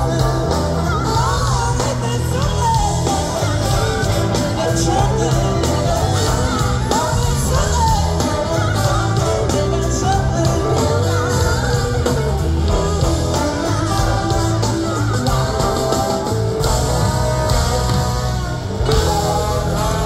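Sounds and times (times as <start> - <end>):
live blues-rock band: 0.0 - 20.0
person singing: 0.0 - 20.0
wavering electric guitar: 0.0 - 20.0.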